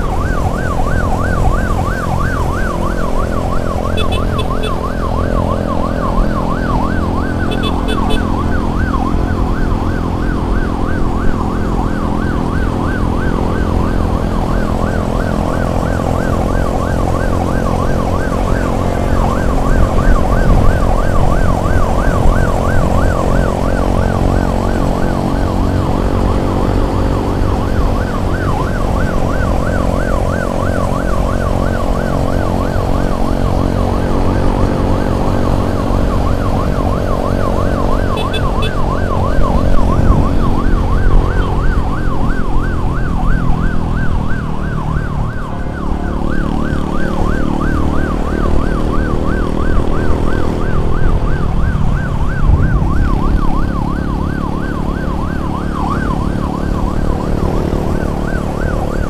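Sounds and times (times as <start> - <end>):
emergency siren yelping: 0.0 - 59.0
engine and road noise: 0.0 - 59.0.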